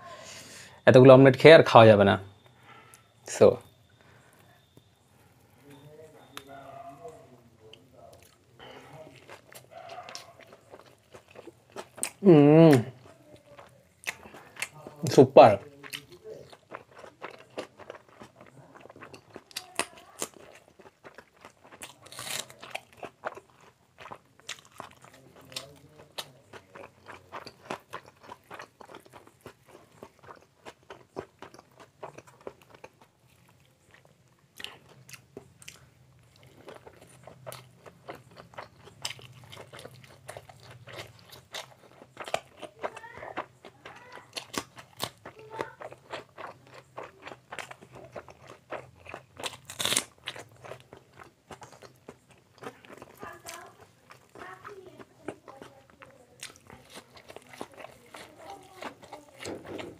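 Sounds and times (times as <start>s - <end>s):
man chewing and biting: 7.8s - 54.7s, 55.5s - 59.9s.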